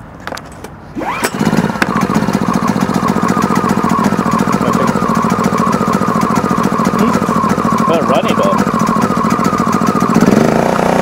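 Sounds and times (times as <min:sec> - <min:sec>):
generator engine running: 0:01.0 - 0:11.0
generator recoil pull start: 0:01.0 - 0:11.0.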